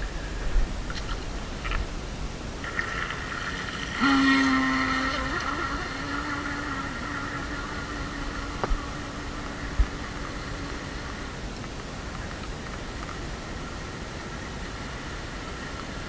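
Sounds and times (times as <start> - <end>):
model boat motor whining: 2.7 - 16.0.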